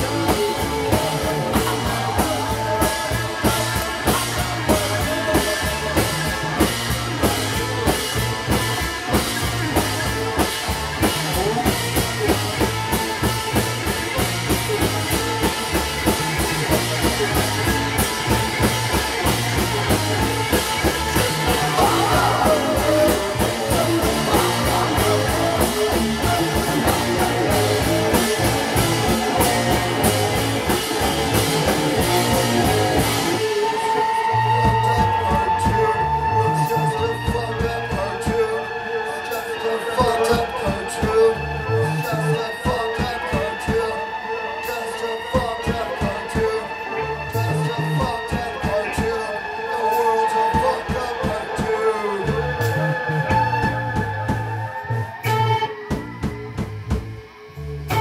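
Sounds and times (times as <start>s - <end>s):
drum kit pounding fast beat: 0.0s - 38.6s, 47.4s - 57.3s
distorted electric guitars: 0.0s - 58.0s.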